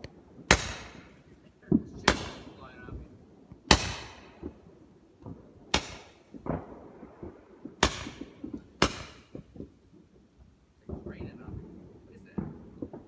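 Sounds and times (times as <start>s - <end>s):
faint firework pops: 0.0s - 4.6s, 5.2s - 9.8s, 10.8s - 13.0s
fireworks bangs echoing: 0.0s - 13.0s.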